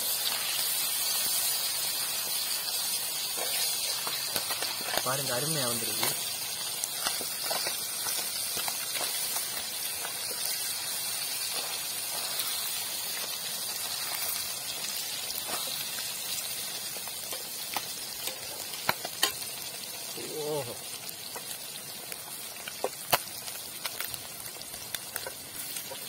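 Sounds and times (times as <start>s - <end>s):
fish sizzling in oil: 0.0s - 26.0s.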